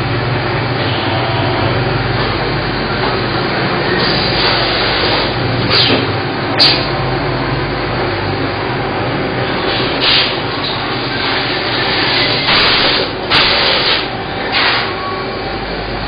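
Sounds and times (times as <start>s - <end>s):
loud machine hum: 0.0s - 16.0s.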